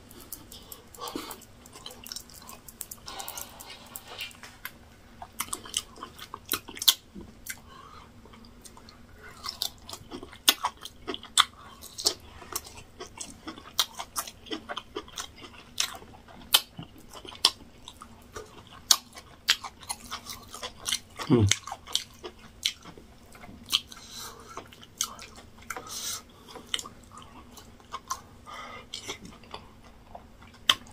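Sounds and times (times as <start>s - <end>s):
man chewing with wet mouth smacks: 0.0s - 30.9s.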